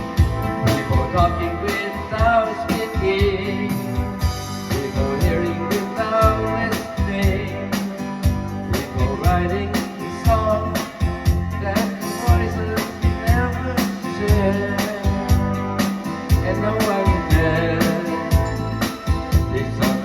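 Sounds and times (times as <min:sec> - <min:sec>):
song with melody bass and drums: 0:00.0 - 0:20.0.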